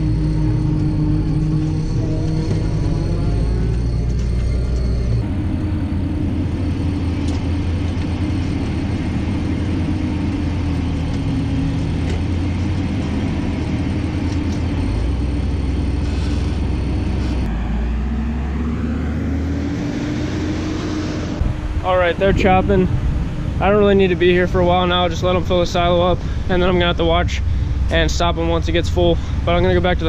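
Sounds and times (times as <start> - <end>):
machinery drone: 0.0 - 30.0.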